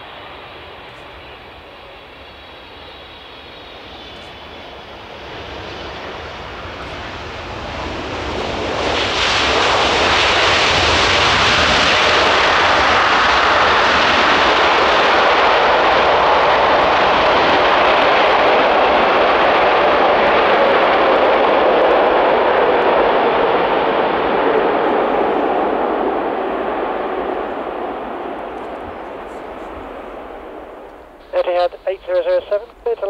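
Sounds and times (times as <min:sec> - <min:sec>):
jet engine reverse thrust: 0:00.0 - 0:33.0.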